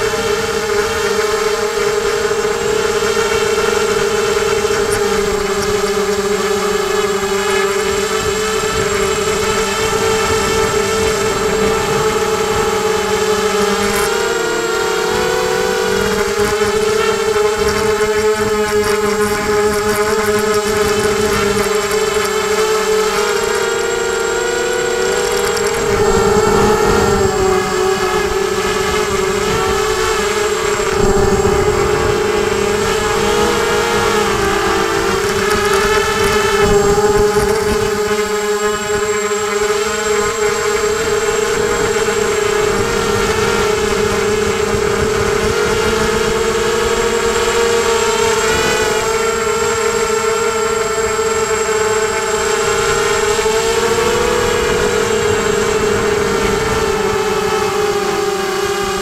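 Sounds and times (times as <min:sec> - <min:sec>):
wind buffeting on microphone: 0:00.0 - 0:23.6, 0:24.9 - 0:59.0
quadcopter motors whining: 0:00.0 - 0:59.0.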